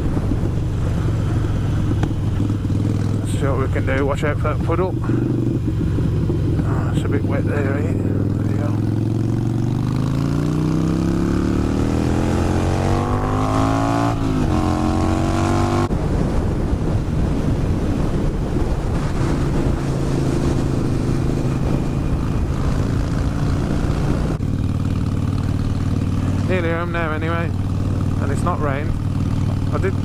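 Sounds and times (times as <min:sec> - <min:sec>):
motorcycle engine accelerating: 0:00.0 - 0:30.0
rush of wind: 0:00.0 - 0:30.0.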